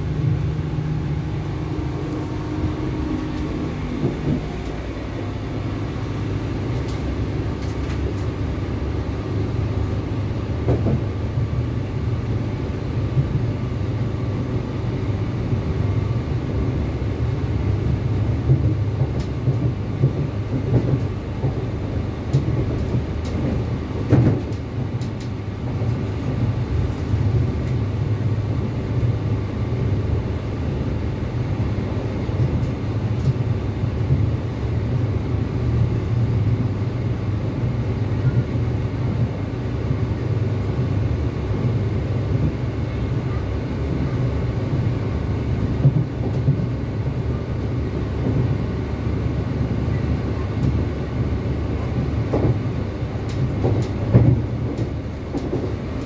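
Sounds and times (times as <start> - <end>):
train diesel engine rumble: 0.0 - 56.0
train wheels on rails: 0.0 - 56.0.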